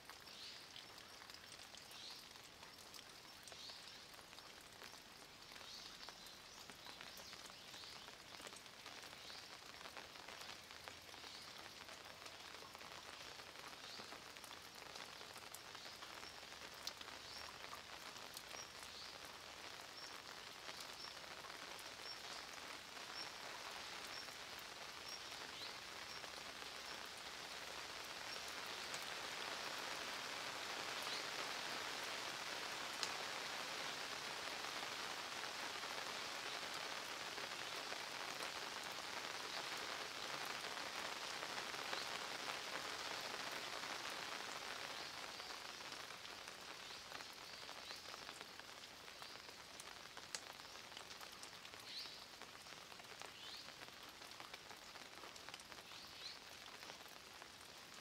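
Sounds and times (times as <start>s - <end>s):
rain falling on stone wall: 0.0s - 58.0s.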